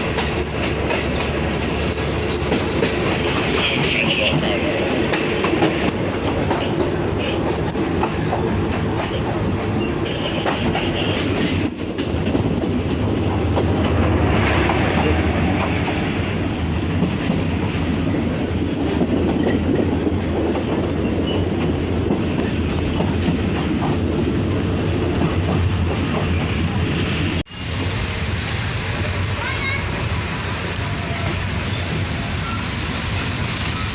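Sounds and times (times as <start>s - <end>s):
train rumbling on track: 0.0s - 33.9s.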